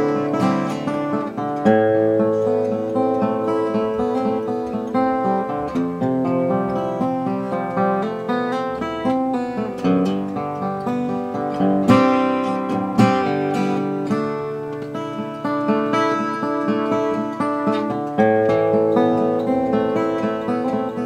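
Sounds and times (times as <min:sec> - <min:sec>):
acoustic guitar picking and strumming: 0:00.0 - 0:21.0.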